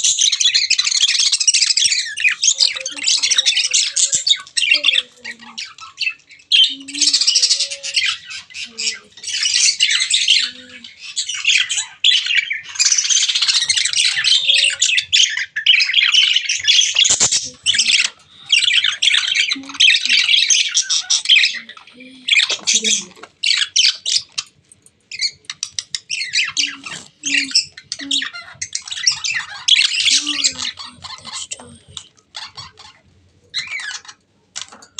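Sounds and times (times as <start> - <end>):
baby birds chirping and squawking: 0.0 - 34.9.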